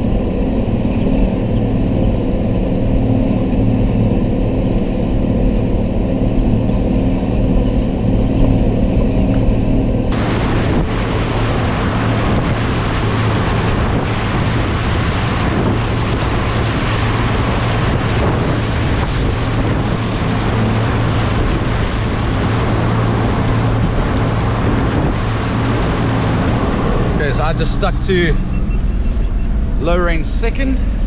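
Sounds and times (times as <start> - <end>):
engine hum: 0.0 - 31.0
water rushing and splashing: 0.0 - 31.0
wind noise on microphone: 0.0 - 31.0.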